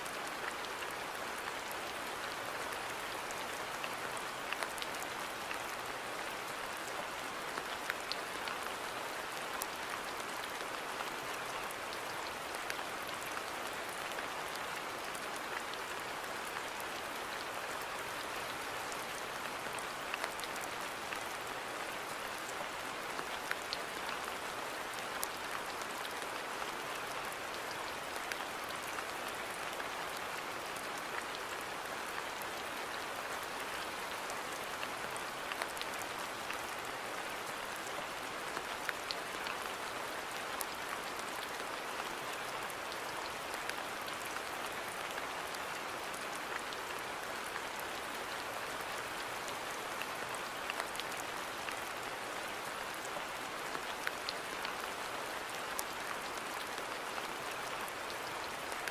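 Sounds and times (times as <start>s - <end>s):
rain falling on a garden: 0.0s - 58.9s.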